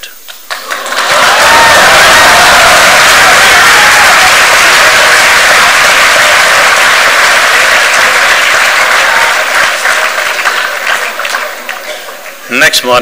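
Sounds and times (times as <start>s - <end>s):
audience applauding: 0.5s - 12.5s.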